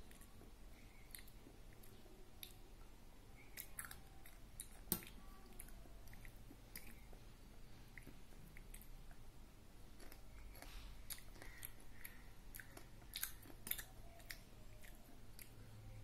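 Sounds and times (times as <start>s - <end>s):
child chewing food: 0.0s - 16.0s.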